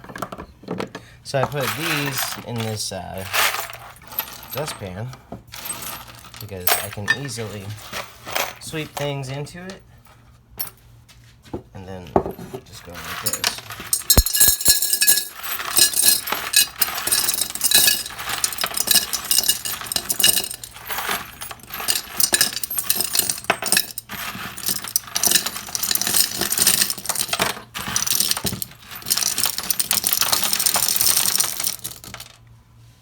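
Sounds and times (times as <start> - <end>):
metal screws rattling in a dustpan: 1.4 - 5.0, 5.6 - 9.2, 12.7 - 32.4.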